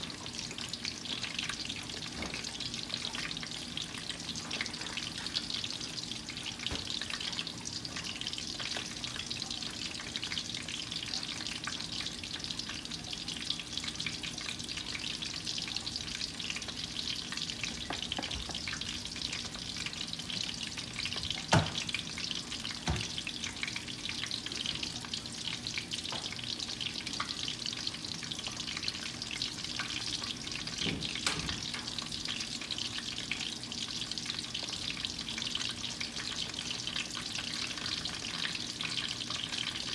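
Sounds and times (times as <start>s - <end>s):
loud clicks of frying: 0.0s - 12.8s, 13.4s - 39.9s
chicken sizzling in hot oil: 0.0s - 39.9s.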